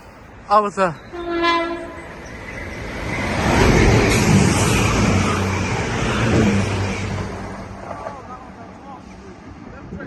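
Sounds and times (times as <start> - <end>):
diesel train engine: 0.0 - 10.0
train wheel and rail noise: 0.0 - 10.0.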